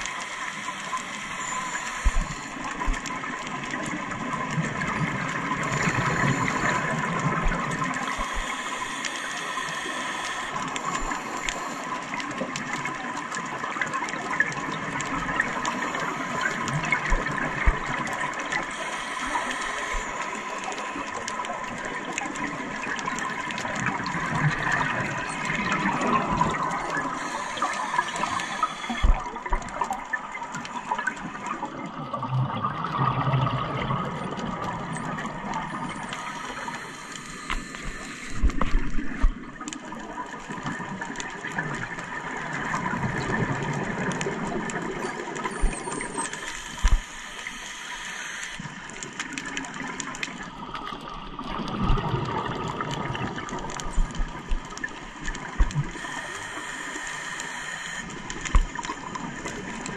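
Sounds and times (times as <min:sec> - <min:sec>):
regulator bubbles gurgling: 0:00.0 - 0:59.9
steady watery hiss: 0:00.0 - 0:59.9.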